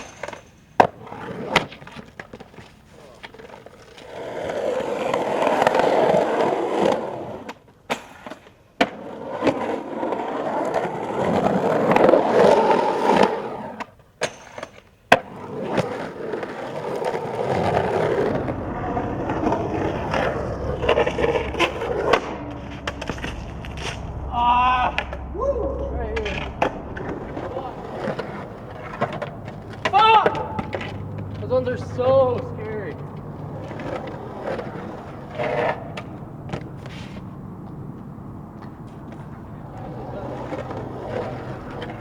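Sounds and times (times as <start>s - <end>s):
skateboard clattering: 0.0s - 24.2s, 26.2s - 42.0s
skateboard cracking on ground: 0.0s - 25.3s, 26.2s - 42.0s
skateboard wheels rumbling: 0.0s - 42.0s.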